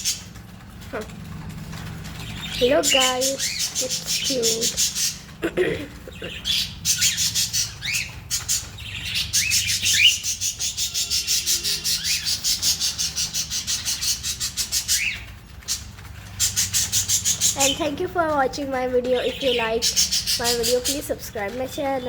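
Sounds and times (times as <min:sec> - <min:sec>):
parrots chirping: 0:00.0 - 0:01.1, 0:01.7 - 0:22.0.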